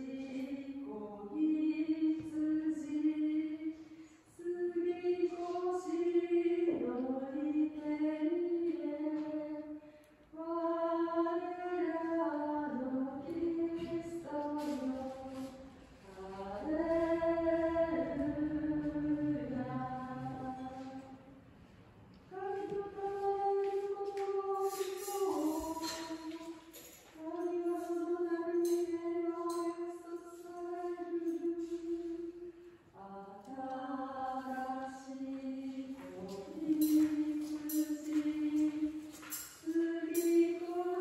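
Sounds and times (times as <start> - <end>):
women singing a hymn: 0.0 - 21.5, 22.2 - 41.0.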